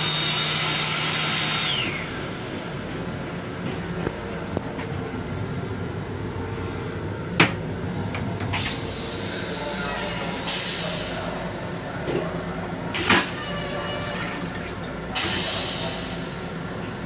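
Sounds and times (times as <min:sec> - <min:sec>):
electric railcar rumble: 0:01.7 - 0:17.0.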